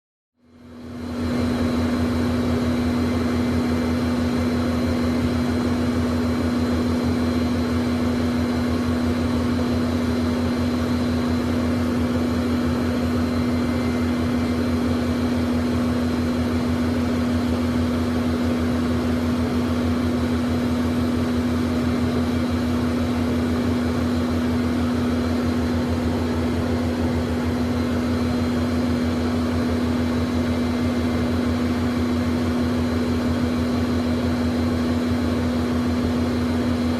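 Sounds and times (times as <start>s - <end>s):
jet engines idling in cabin: 0.4s - 36.9s.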